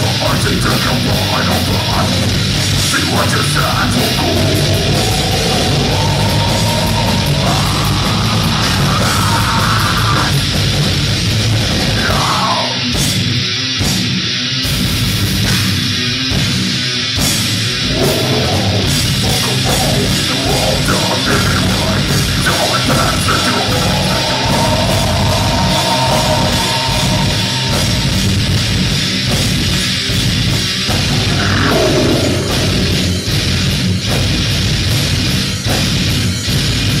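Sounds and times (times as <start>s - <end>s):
harsh vocals: 0.0s - 10.9s, 11.6s - 13.3s, 17.8s - 30.2s, 30.8s - 35.9s
heavy metal band playing: 0.0s - 37.0s.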